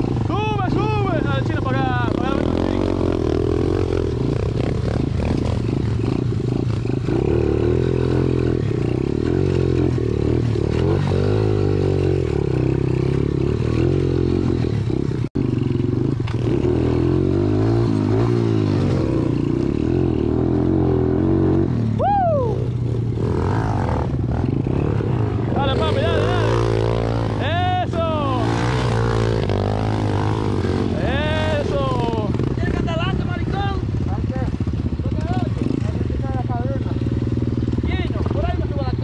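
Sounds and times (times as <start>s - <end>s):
dirt bike engine running: 0.0s - 39.0s.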